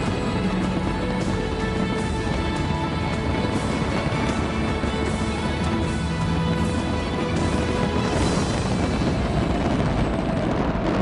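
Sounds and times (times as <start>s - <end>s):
music with sustained tones: 0.0s - 11.0s.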